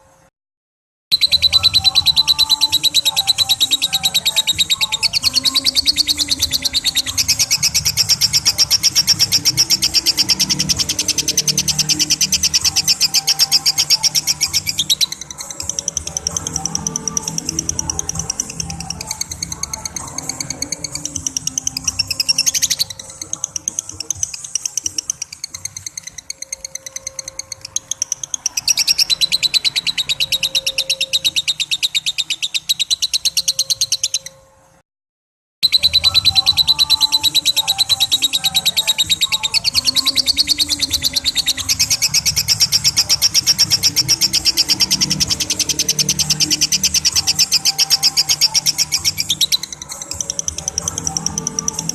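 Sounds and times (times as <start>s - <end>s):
bird chattering trill: 1.1s - 34.4s, 35.6s - 51.9s.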